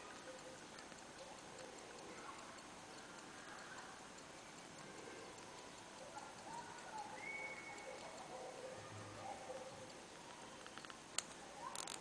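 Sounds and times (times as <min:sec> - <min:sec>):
pocket watch ticking: 0:00.0 - 0:12.0.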